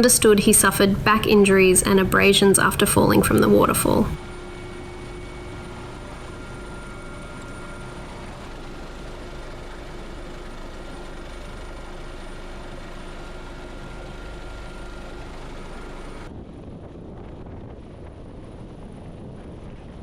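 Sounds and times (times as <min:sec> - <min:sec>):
faint steady whine: 0:00.0 - 0:20.0
helicopter hovering: 0:00.0 - 0:20.0.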